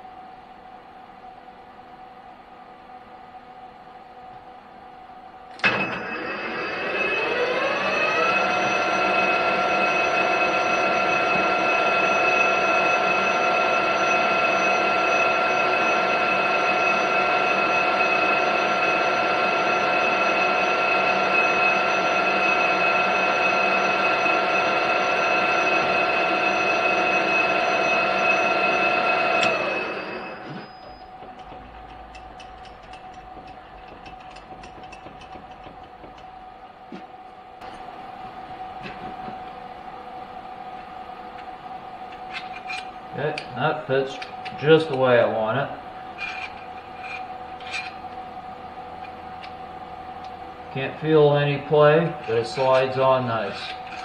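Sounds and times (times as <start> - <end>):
metal lathe whining: 5.6 - 54.0.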